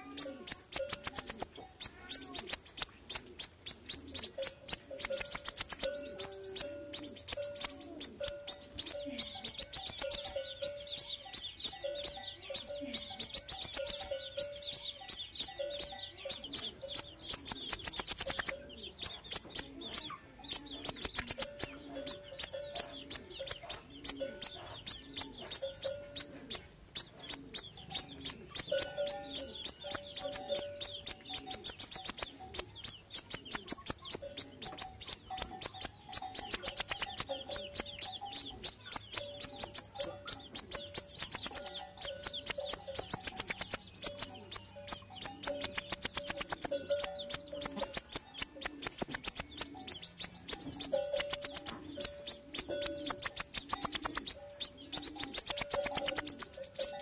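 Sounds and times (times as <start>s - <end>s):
high bird chips and trills: 0.0s - 57.0s.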